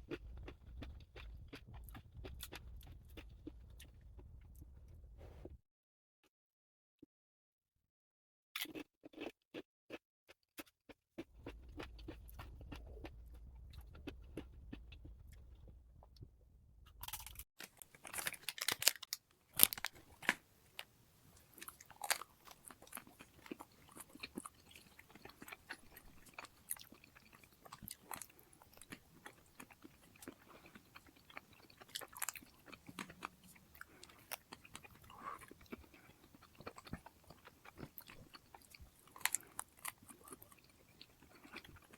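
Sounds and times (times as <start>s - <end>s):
person chewing crunchy food: 0.0s - 5.4s, 8.6s - 41.9s.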